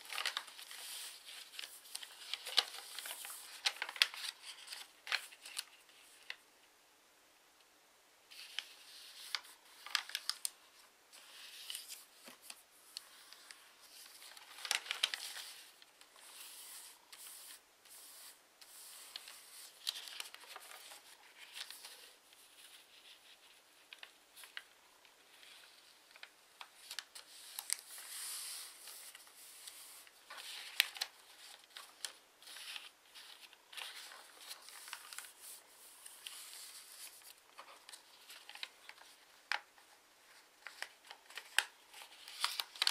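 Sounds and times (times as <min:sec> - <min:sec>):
paper folding and crinkling: 0:00.0 - 0:06.4, 0:08.3 - 0:42.9.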